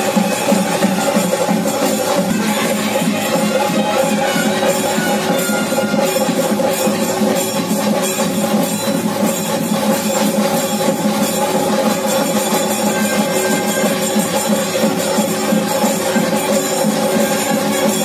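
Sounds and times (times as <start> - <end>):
drums: 0.0 - 18.0
jingling percussion: 0.0 - 18.0.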